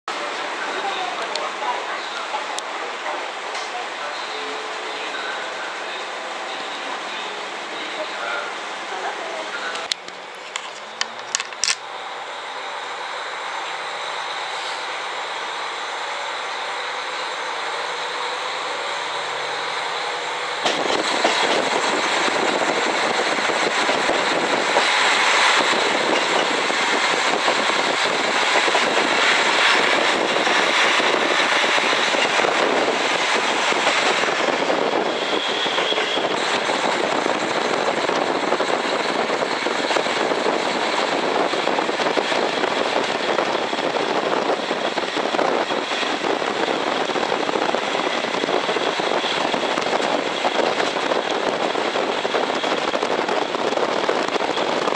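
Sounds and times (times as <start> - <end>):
railcar engine and wheels droning: 0.1 - 54.9.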